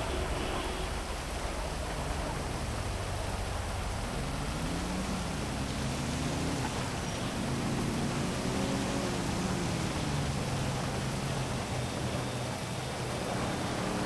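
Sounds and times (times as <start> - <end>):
vehicle engine drone: 0.0 - 14.0.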